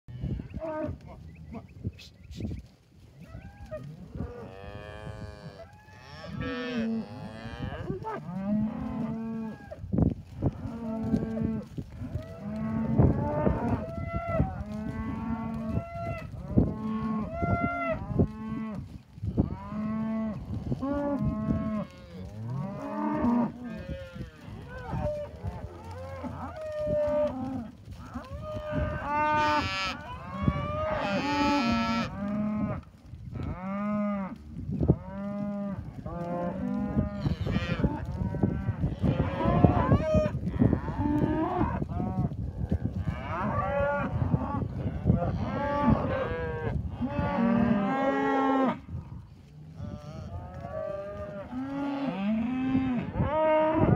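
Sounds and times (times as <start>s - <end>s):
cows and calves mooing: 0.1s - 1.8s, 3.2s - 53.9s.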